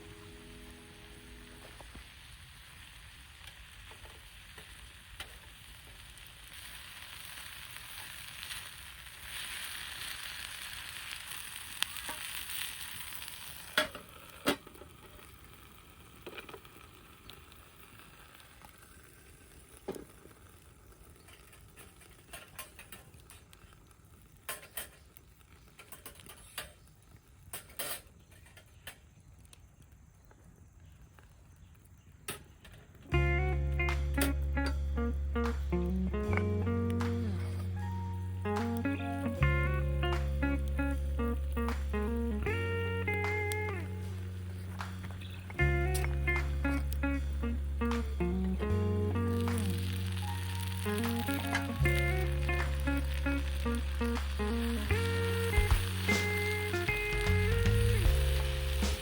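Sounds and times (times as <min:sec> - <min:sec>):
food sizzling in a frying pan: 0:00.0 - 0:28.1, 0:33.1 - 0:59.0.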